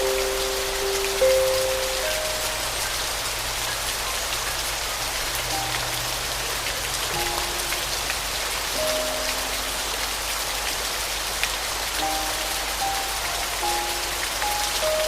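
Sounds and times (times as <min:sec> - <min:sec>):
soft piano notes: 0:00.0 - 0:15.0
steady rain falling: 0:00.0 - 0:15.0.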